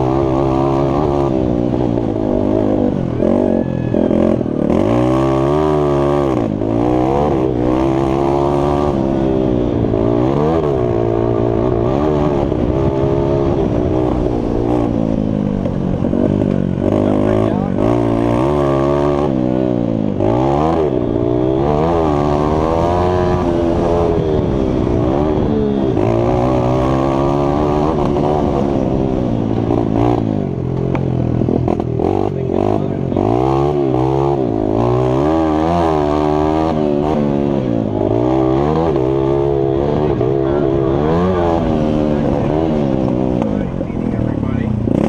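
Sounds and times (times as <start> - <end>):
motorbike engine racing: 0.0 - 45.0.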